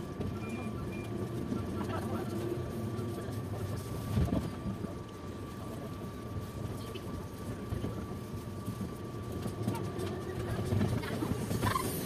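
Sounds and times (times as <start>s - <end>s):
freight train passing: 0.0s - 12.0s
train rumble inside coach: 0.0s - 12.0s.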